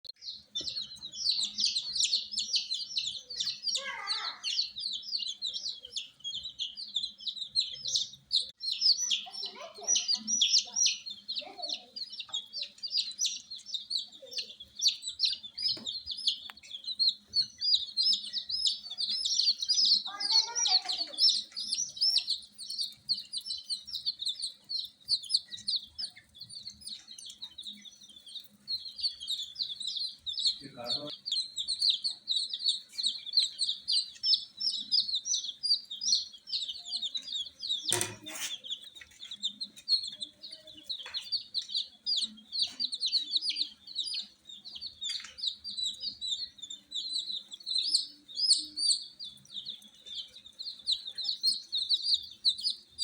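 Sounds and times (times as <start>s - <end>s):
chicks peeping: 0.0s - 53.0s.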